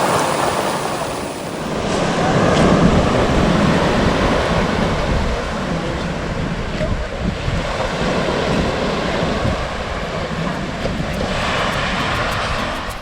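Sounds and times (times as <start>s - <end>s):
ocean surf rushing: 0.0s - 13.0s
wind buffeting microphone: 0.0s - 13.0s.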